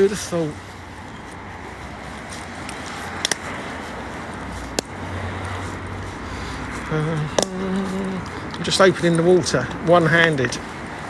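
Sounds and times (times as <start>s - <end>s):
passing cars hum: 0.0s - 11.0s.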